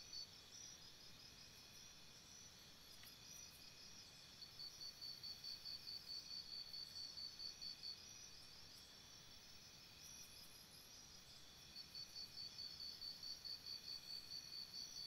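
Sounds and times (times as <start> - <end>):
faint insect drone: 0.0 - 15.0.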